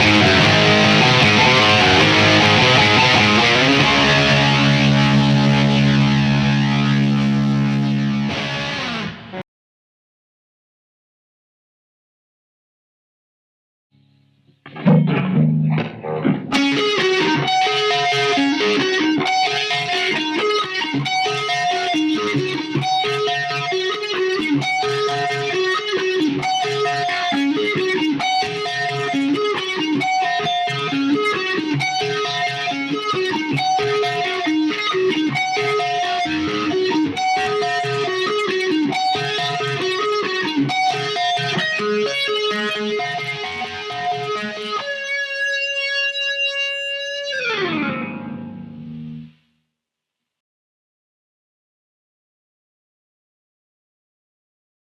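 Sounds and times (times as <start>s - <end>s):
electric guitar fast riff: 0.0s - 9.4s, 14.6s - 49.4s.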